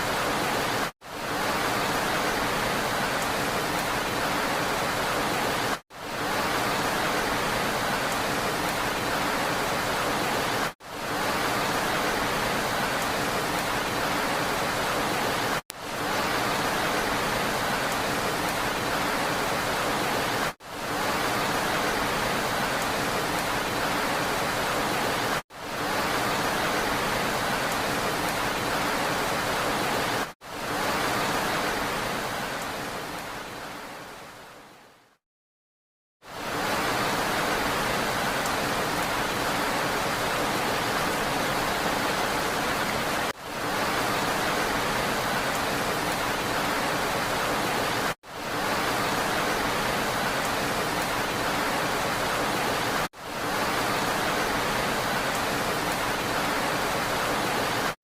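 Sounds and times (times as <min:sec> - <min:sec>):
rain hiss: 0:00.0 - 0:35.2, 0:36.2 - 0:58.0.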